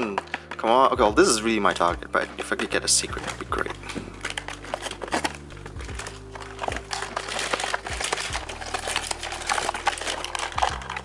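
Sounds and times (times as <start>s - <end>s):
background music: 0.0s - 11.0s
packaging crinkling and rustling: 0.0s - 11.0s.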